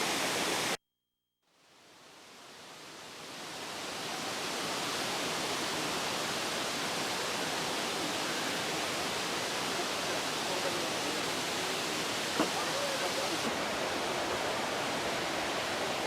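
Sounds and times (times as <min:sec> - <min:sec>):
waterfall roaring: 0:02.8 - 0:16.0.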